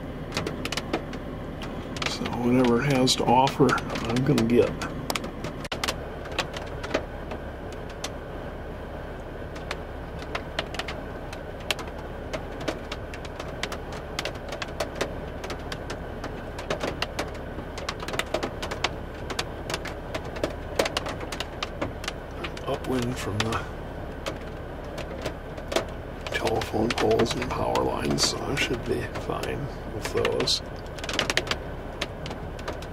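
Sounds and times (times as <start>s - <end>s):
raindrops tapping on windshield: 0.0s - 32.9s
steady low rumble: 0.0s - 32.9s.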